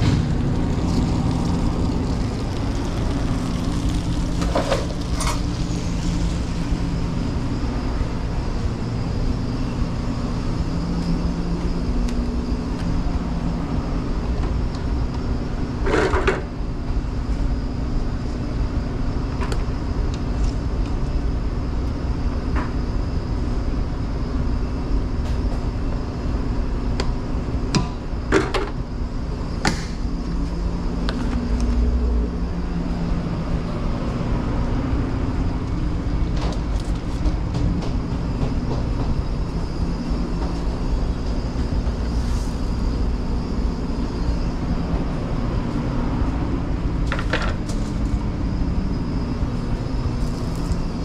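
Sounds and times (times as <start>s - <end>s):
kitchen equipment humming: 0.0s - 23.7s, 24.8s - 51.0s.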